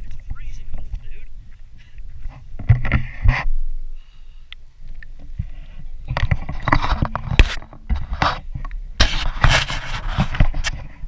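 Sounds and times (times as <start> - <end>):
camera handling scraping and knocking: 0.1 - 3.5, 5.0 - 11.0.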